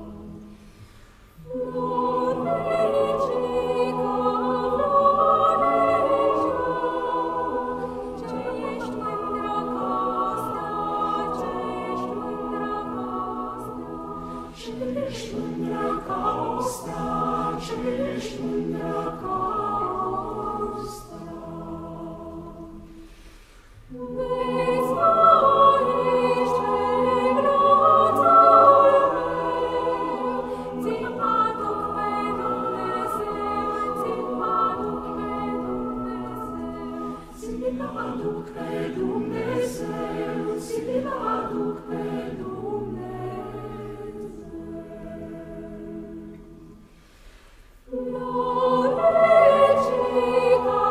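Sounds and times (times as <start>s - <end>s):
choir singing a cappella: 0.0s - 50.9s.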